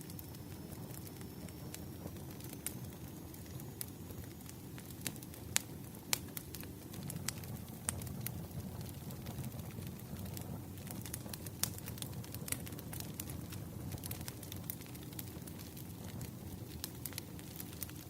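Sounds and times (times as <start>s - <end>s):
fire low rumble: 0.0s - 18.0s
wood fire crackling and popping: 0.0s - 18.0s.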